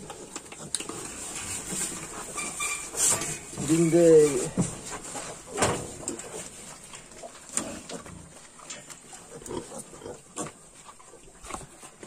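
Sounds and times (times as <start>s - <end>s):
pigs grunting and snuffling: 0.0s - 12.0s.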